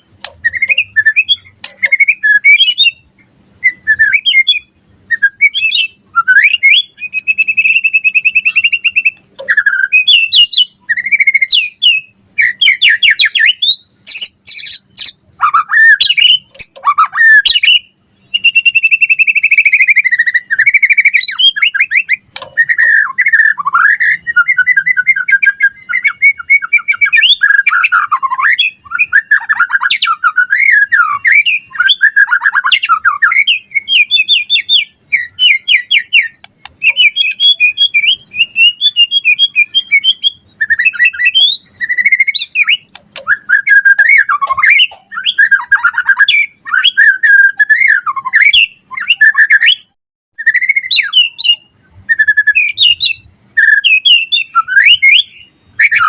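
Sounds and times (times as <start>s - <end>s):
songbird singing whistled phrases: 0.0s - 56.0s.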